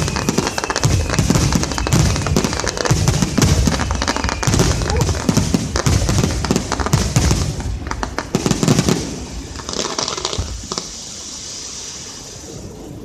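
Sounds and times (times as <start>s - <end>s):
fireworks booms and bangs: 0.0s - 11.4s
fireworks crackling: 0.0s - 13.0s.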